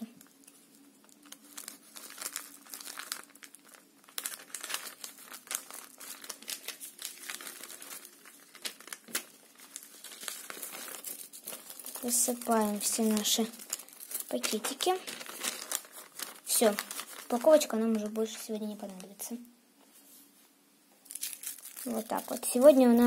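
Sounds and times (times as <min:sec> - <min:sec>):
paper crinkling and rustling: 0:00.0 - 0:19.4, 0:21.1 - 0:23.0.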